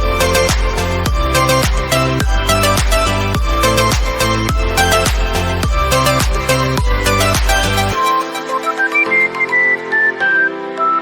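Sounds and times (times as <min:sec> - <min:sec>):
electronic dance music: 0:00.0 - 0:10.2.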